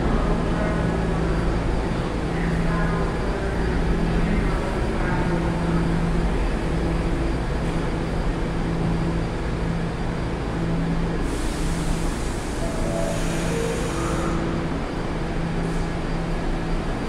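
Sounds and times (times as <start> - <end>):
intermittent low hum: 0.0 - 17.0
subway train rumble: 0.0 - 17.0.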